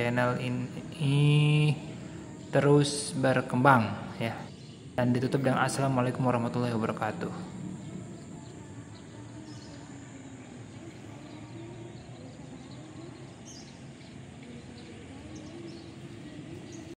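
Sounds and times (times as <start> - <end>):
faint bird chirps: 0.0 - 17.0
outdoor background noise: 0.0 - 17.0.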